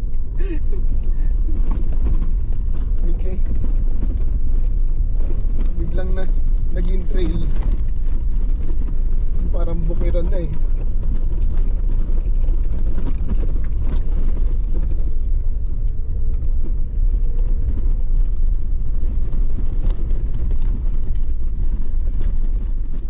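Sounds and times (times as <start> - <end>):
engine and tyres rumbling: 0.0 - 23.0.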